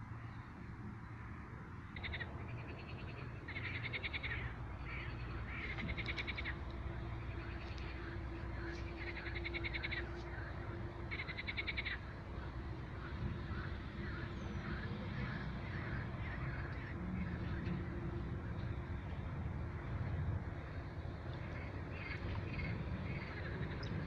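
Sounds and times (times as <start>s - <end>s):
low steady rumble: 0.0s - 24.0s
frogs trilling: 1.8s - 18.9s, 19.7s - 24.0s.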